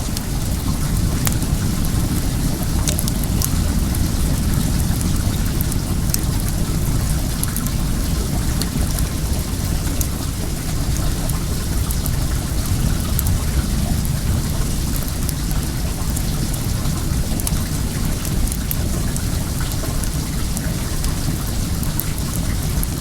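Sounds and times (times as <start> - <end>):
running water rushing: 0.0 - 23.0
wood fire crackling and popping: 0.0 - 23.0.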